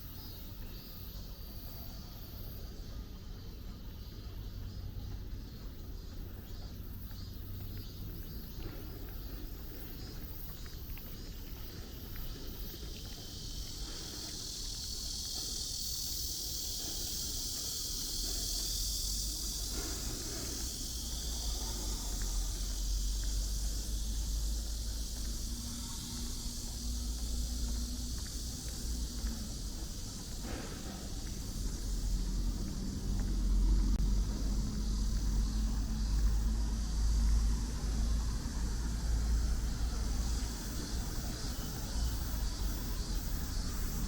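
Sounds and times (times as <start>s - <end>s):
insects buzzing: 0.0s - 44.0s
low rumble of city traffic: 0.0s - 44.0s.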